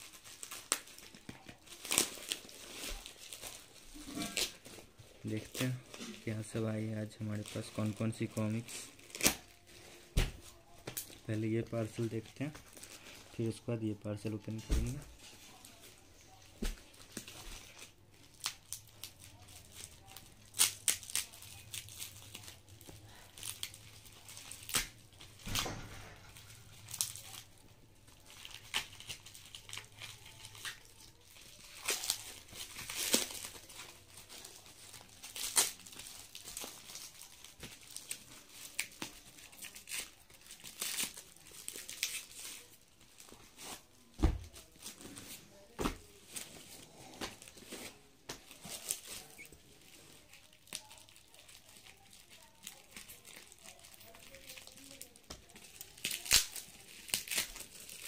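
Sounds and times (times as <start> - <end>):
scissors cutting plastic wrap: 0.0 - 6.2, 7.3 - 9.7, 16.6 - 43.8, 44.5 - 58.0
plastic wrap crinkling: 0.0 - 58.0.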